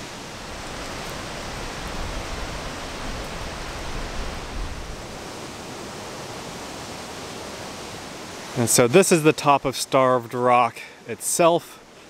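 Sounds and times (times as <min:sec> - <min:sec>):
steady outdoor noise: 0:00.0 - 0:12.0.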